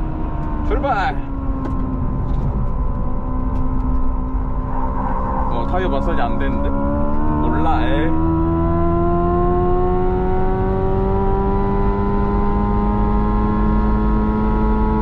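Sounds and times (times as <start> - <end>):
road and wind noise: 0.0 - 15.0
synthesized engine tones rising: 0.0 - 15.0.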